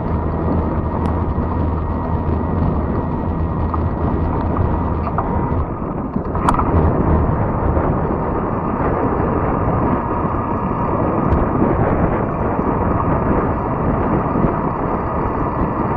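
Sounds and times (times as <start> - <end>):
tyres rolling on trail: 0.0 - 15.9
wind on microphone: 0.0 - 15.9.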